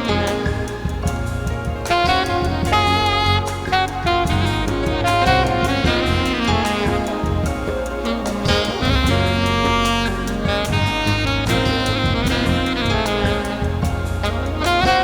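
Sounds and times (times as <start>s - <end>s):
drum kit: 0.0s - 15.0s
saxophone line: 0.0s - 15.0s.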